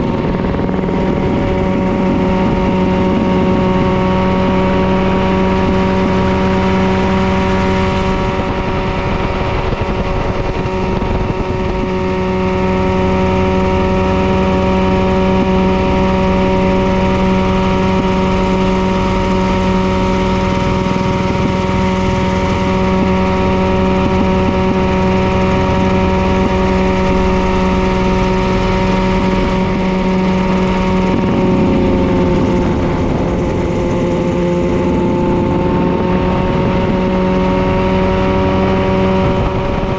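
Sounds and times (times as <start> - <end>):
helicopter engine drone: 0.0 - 39.9.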